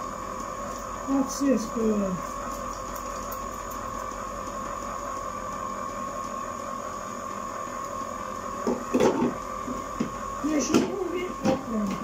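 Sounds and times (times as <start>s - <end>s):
ice cream maker motor whirring: 0.0s - 12.0s.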